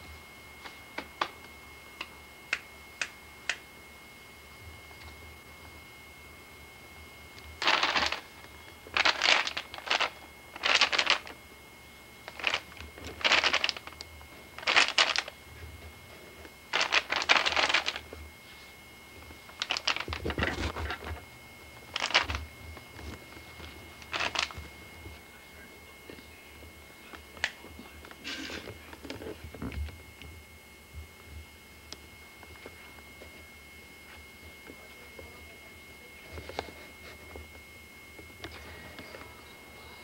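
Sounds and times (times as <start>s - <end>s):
faint high whine: 0.0s - 40.0s.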